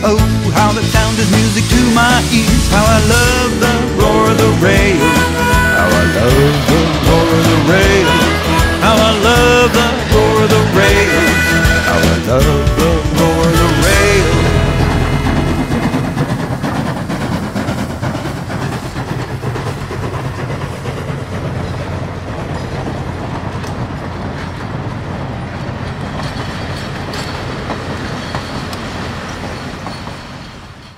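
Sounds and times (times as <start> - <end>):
train wheels clicking over rail joints: 0.0 - 30.9.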